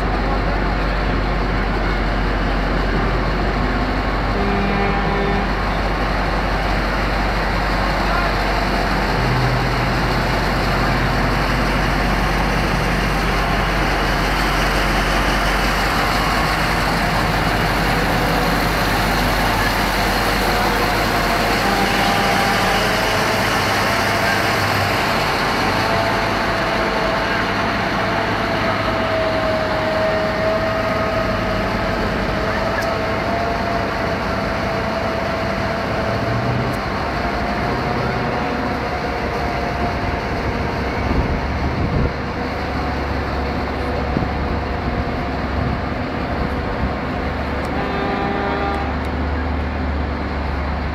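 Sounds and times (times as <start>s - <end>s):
haul truck diesel engine: 0.0s - 50.9s.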